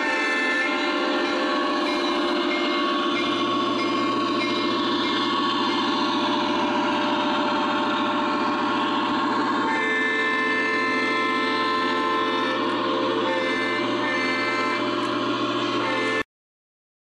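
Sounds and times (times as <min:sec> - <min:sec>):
model train diesel engine rumble: 0:00.0 - 0:16.2
model train wheels on track: 0:00.0 - 0:16.2
train horn: 0:00.0 - 0:16.3.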